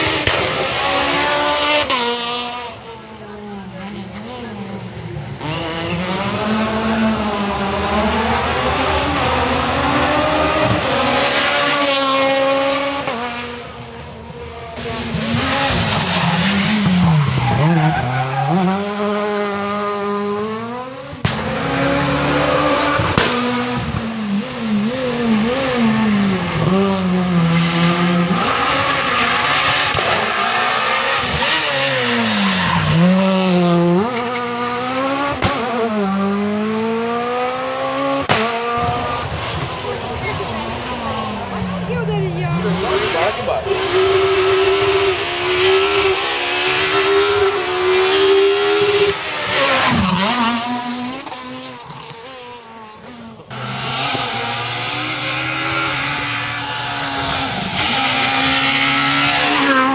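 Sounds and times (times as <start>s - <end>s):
rally car engines revving past: 0.0s - 59.9s.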